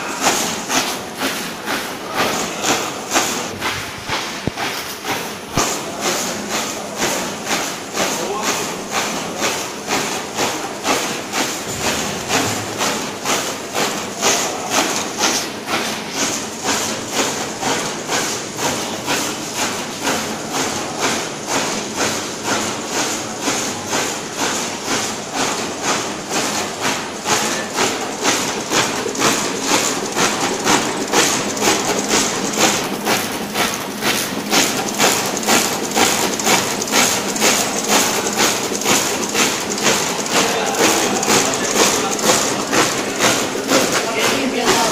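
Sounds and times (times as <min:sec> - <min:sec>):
label printer knocking rhythmically: 0:00.0 - 0:44.9.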